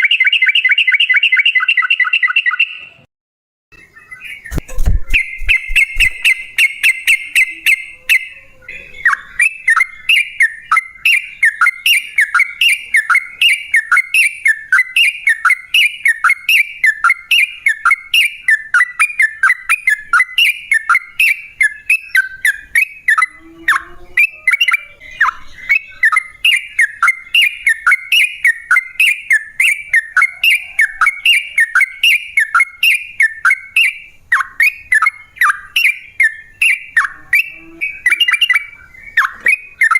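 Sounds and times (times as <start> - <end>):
bird trilling: 3.8 - 39.9.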